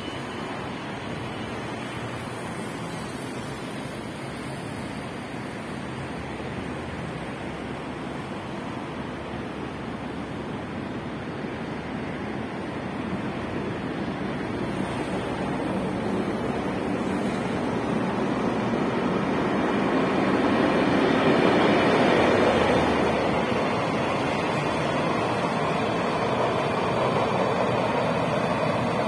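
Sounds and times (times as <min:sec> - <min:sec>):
road traffic rushing: 0:00.0 - 0:29.0.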